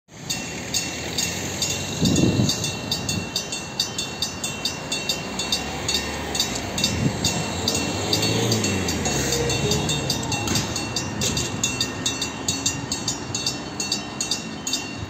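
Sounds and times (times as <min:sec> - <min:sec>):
crossing warning bell ringing: 0:00.1 - 0:15.0
train rumbling: 0:00.1 - 0:15.0
steady high tone: 0:00.3 - 0:15.0.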